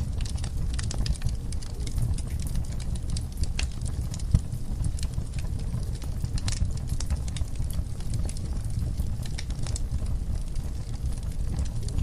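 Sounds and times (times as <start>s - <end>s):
logs crackling and popping: 0.0s - 12.0s
steady low rumble: 0.0s - 12.0s.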